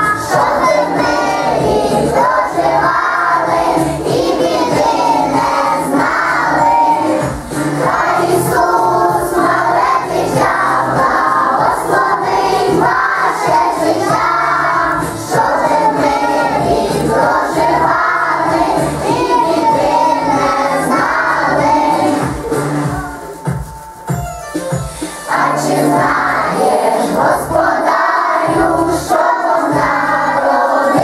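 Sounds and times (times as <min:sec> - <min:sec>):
children singing together: 0:00.0 - 0:23.2, 0:25.3 - 0:31.0
backing music track: 0:00.0 - 0:31.0.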